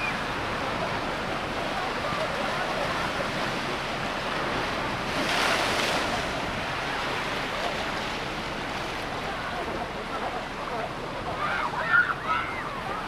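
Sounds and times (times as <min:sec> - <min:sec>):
ocean waves breaking on beach: 0:00.0 - 0:13.0.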